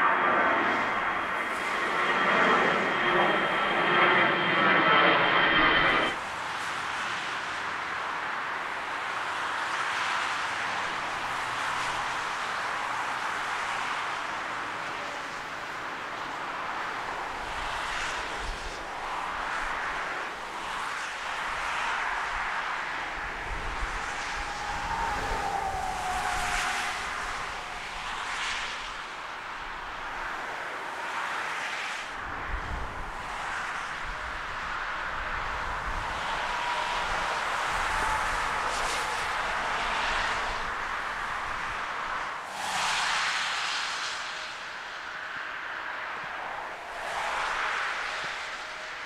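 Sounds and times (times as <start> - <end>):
distant jet engines: 0.0 - 49.0.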